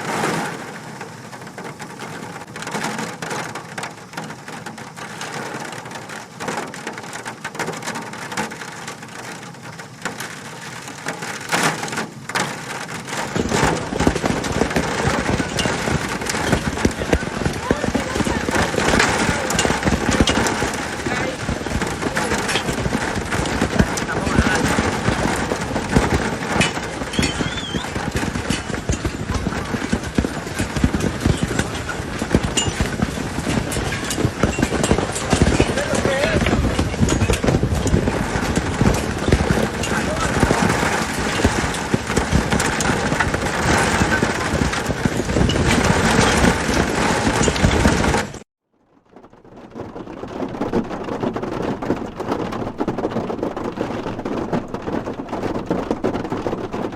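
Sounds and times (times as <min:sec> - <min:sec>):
hailstones pelting a surface: 0:00.0 - 0:56.9
steady downpour: 0:00.0 - 0:56.9.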